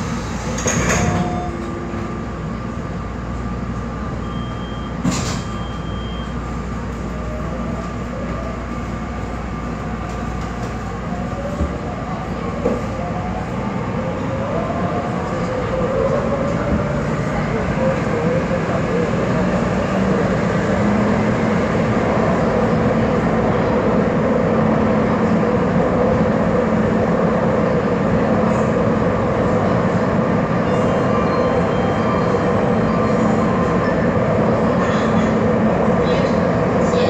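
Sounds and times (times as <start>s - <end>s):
metro train wheels rumbling: 0.0s - 37.0s.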